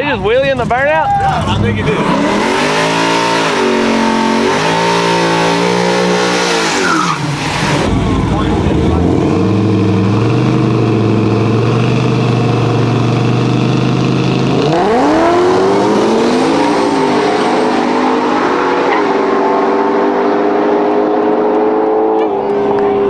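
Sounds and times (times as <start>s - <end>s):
drag race car engine: 0.0s - 23.0s.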